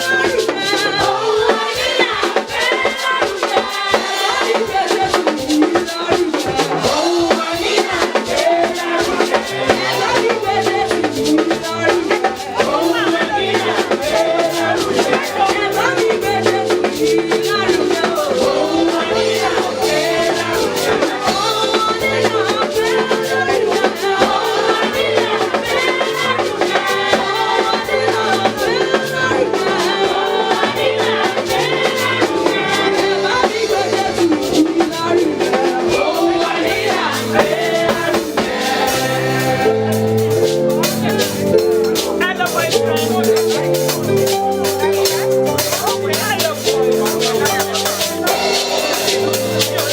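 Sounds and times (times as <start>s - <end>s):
music with drum beat and bass: 0.0s - 49.9s
voices singing: 0.0s - 49.9s.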